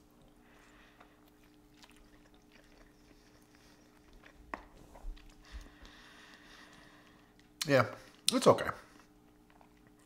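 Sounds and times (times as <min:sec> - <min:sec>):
faint steady hum: 0:00.0 - 0:10.0
person chewing: 0:00.1 - 0:10.0.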